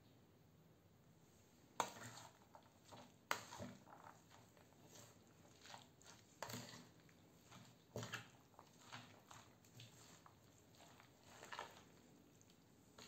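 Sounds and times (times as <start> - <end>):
squishing stirring of salad: 1.3 - 13.0.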